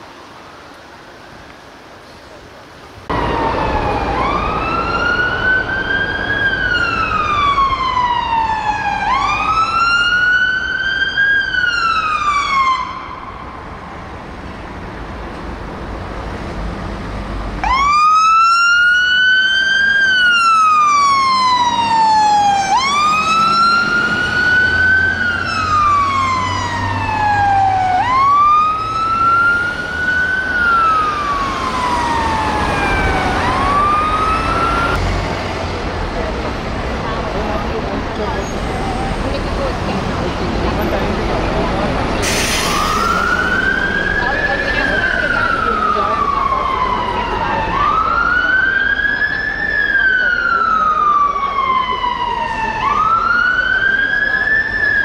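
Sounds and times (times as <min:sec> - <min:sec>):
diesel engine rumbling: 0:00.0 - 0:55.0
fire engine siren wailing: 0:03.1 - 0:14.2, 0:17.6 - 0:35.4, 0:37.2 - 0:55.0.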